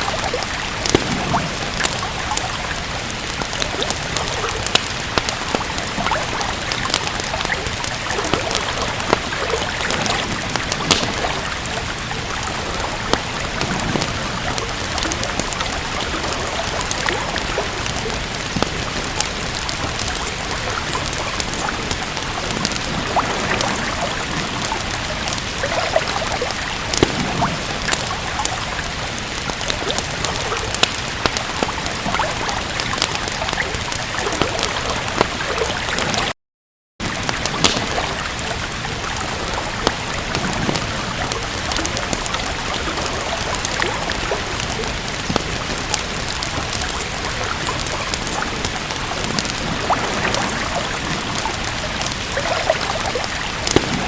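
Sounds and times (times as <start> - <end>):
steady rain: 0.0 - 36.4, 37.0 - 54.0
wood fire crackling: 0.0 - 36.4, 37.0 - 54.0.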